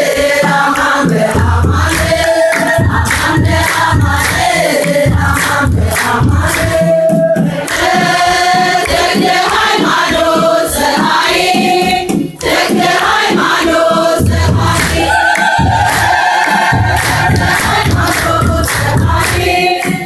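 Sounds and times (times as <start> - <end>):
choir and congregation singing: 0.0 - 20.0.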